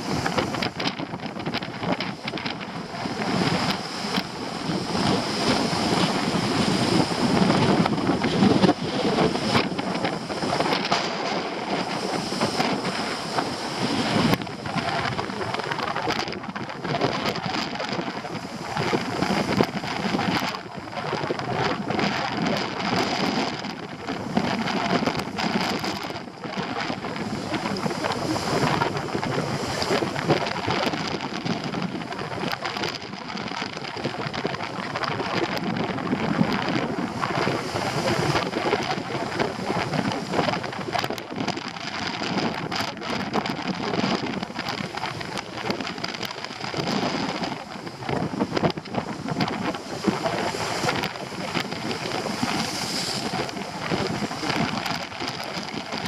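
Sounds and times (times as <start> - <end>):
breaking surf: 0.0 - 56.0
wind buffeting microphone: 0.0 - 56.0.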